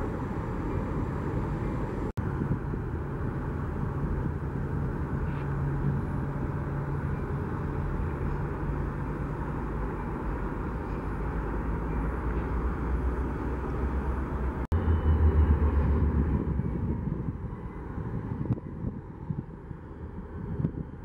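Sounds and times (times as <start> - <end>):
low vehicle rumble: 0.0 - 21.0.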